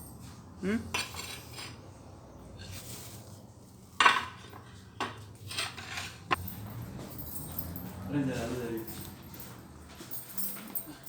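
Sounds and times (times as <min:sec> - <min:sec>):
metal tools clinking on tile: 0:00.0 - 0:01.8, 0:03.9 - 0:11.0.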